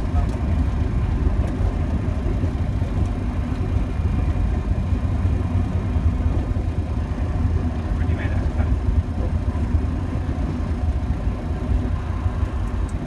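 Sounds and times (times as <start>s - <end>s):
airplane rolling low rumble: 0.0s - 13.0s.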